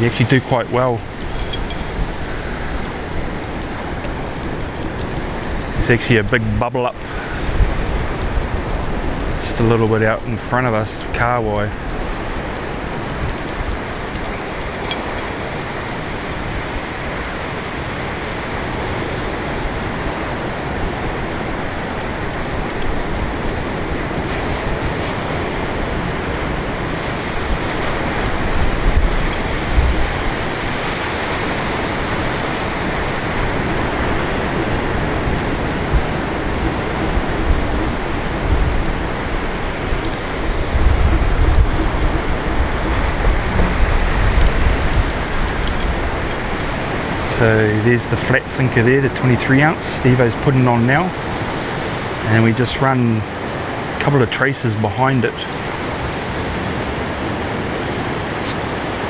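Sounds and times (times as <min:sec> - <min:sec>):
surf breaking on beach: 0:00.0 - 0:59.0
wind buffeting microphone: 0:00.0 - 0:59.0.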